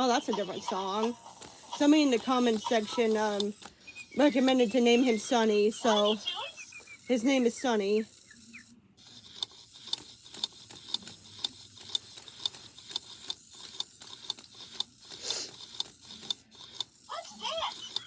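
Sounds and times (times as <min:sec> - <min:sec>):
toy motor clicking: 0:00.0 - 0:18.0.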